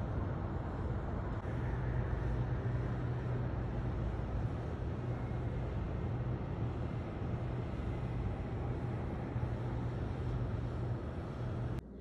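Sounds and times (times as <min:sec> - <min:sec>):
constant low hum: 0:00.0 - 0:12.0
distant traffic: 0:00.0 - 0:12.0.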